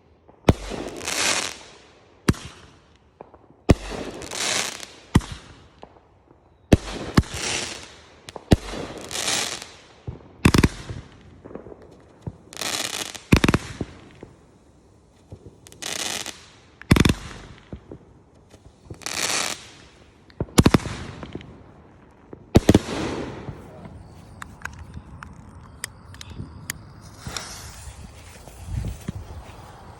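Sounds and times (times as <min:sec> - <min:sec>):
crackling firework shells: 0:00.3 - 0:29.9.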